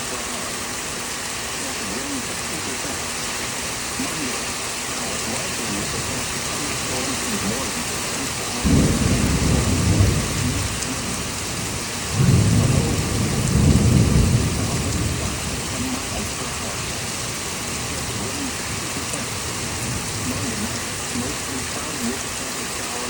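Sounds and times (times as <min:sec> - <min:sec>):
steady rain: 0:00.0 - 0:23.0
thunder rumbling: 0:00.0 - 0:23.0.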